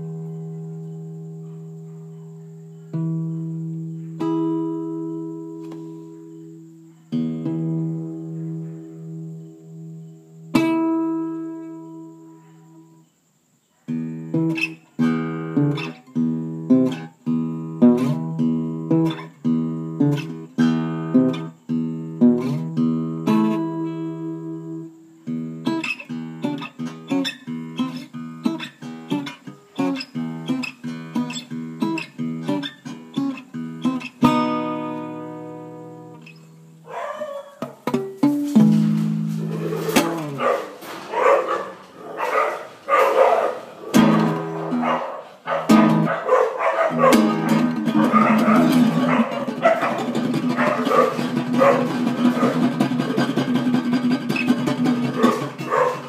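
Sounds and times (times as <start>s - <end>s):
acoustic guitar strumming: 0.0s - 13.0s, 13.9s - 56.0s.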